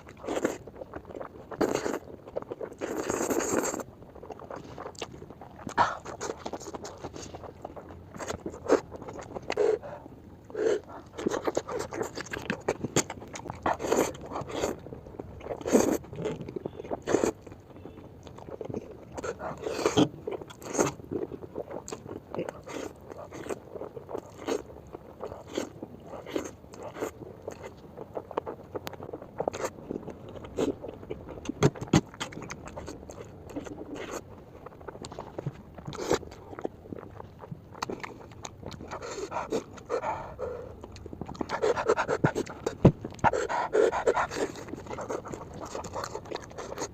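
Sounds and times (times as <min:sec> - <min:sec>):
chewing noodles: 0:00.0 - 0:46.9.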